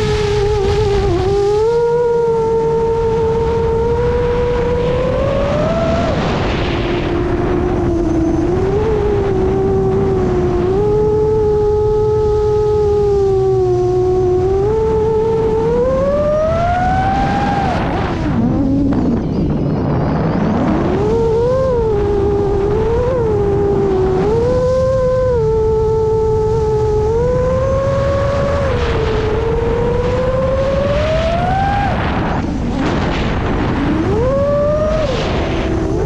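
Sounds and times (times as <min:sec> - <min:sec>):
low rumble: 0:00.0 - 0:36.0
quadcopter motors whining: 0:00.0 - 0:36.0.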